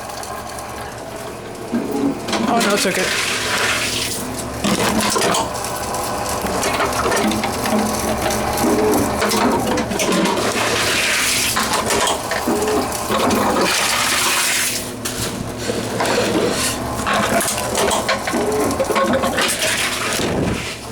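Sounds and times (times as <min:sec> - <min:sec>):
vending machine mechanical rushing: 0:00.0 - 0:20.9.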